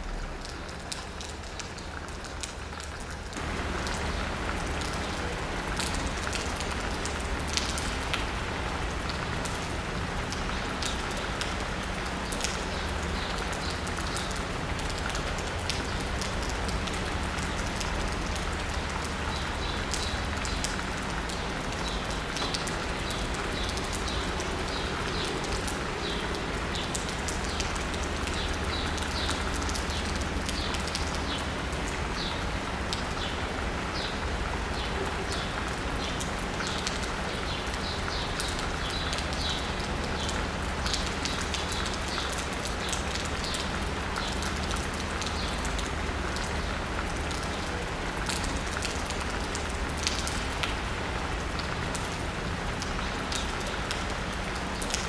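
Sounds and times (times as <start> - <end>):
rain falling on asphalt and rooftops: 0.0 - 55.0.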